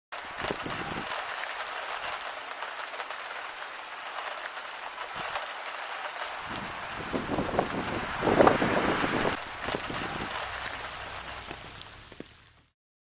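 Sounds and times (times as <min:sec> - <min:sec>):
rain on a hard surface: 0:00.2 - 0:12.8.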